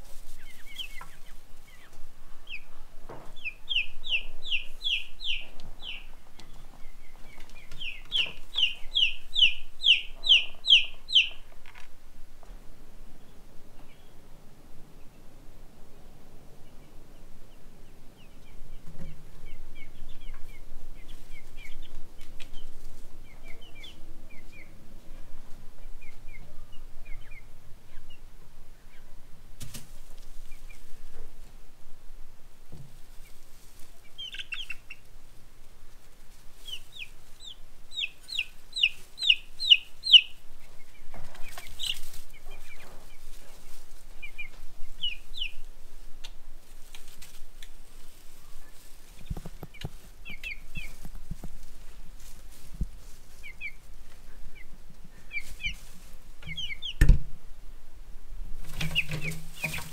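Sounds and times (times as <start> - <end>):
baby chicks peeping: 0.0 - 31.6, 32.7 - 57.3, 58.6 - 59.9.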